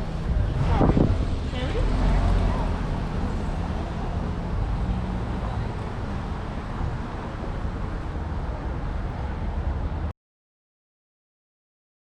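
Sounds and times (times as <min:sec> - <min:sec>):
traffic road noise: 0:00.0 - 0:10.1
wind rumbling on microphone: 0:00.0 - 0:10.1.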